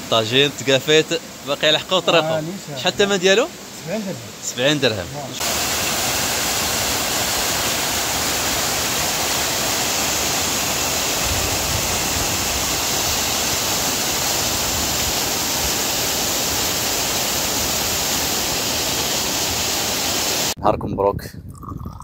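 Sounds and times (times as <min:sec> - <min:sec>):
waterfall pouring into a pool: 0:00.1 - 0:20.6.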